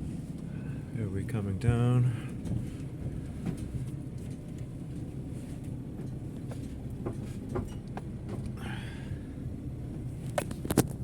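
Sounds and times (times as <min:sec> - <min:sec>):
van rumbling on rough track: 0:00.0 - 0:11.0.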